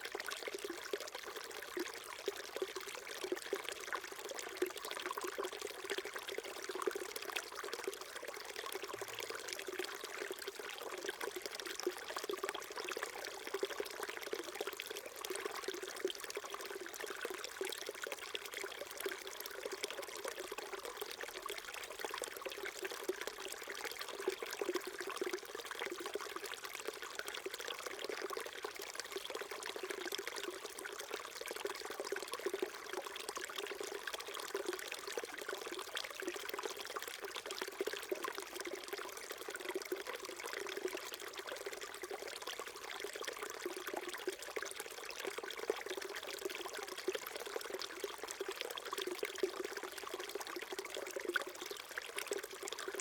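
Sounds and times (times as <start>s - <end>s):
brook trickling and gurgling: 0.0s - 53.0s.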